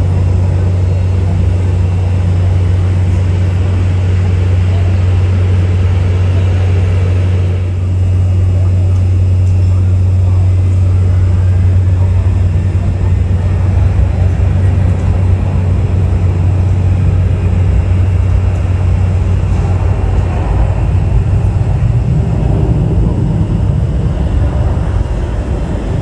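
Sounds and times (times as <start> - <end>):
jet airliner engines rumbling: 0.0 - 26.0.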